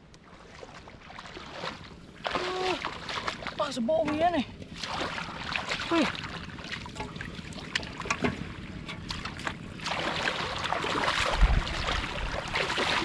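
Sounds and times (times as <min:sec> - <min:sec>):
shallow water splashing: 0:00.1 - 0:13.0.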